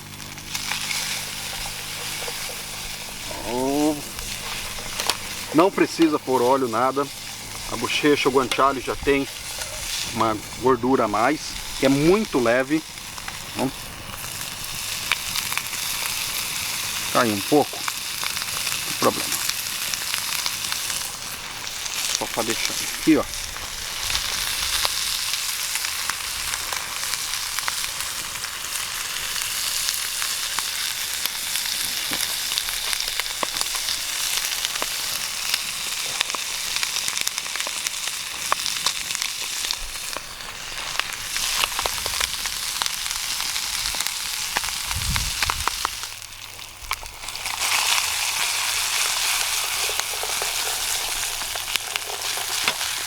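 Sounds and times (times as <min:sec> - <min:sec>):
meat sizzling in a pan: 0:00.0 - 0:53.0.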